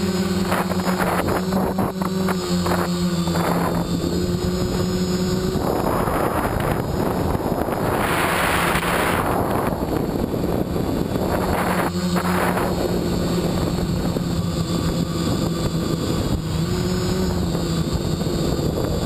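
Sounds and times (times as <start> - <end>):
drone propellers buzzing: 0.0 - 19.0
wind noise rushing: 0.0 - 19.0.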